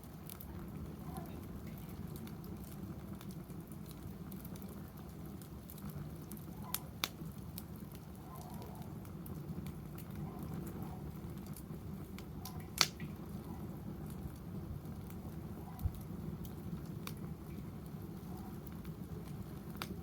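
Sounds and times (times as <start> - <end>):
fire popping: 0.0 - 20.0
wood fire crackling: 0.0 - 20.0.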